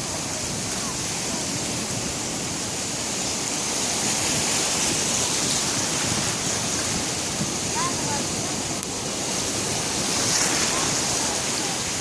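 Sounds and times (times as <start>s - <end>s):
sea surf washing on shore: 0.0s - 12.0s.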